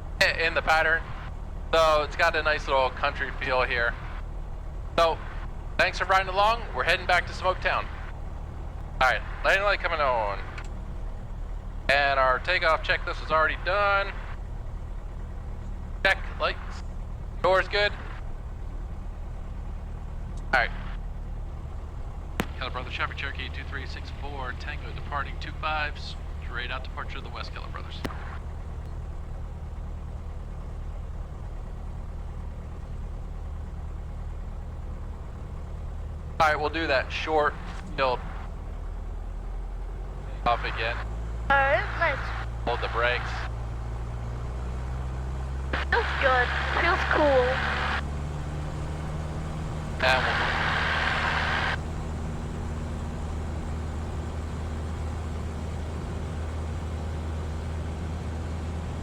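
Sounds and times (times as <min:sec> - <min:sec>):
aircraft piston engine running: 0:00.0 - 0:59.0.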